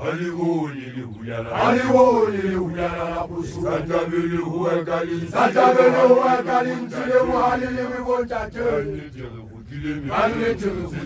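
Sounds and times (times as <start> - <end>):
low held drone: 0.0 - 11.0
young men chanting together: 0.0 - 11.0.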